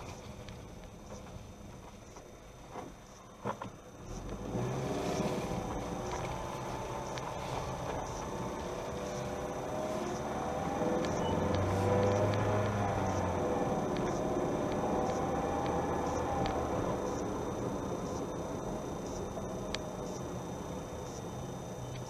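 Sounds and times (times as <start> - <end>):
car engine accelerating: 3.4 - 22.0.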